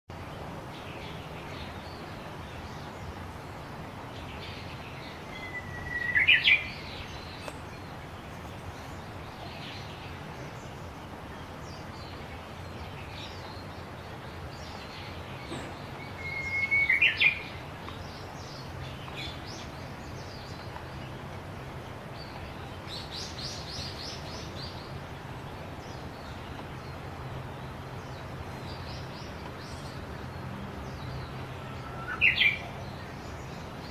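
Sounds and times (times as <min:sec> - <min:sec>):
bush warbler whistled song: 0:00.7 - 0:07.9, 0:11.6 - 0:21.1, 0:22.2 - 0:33.9.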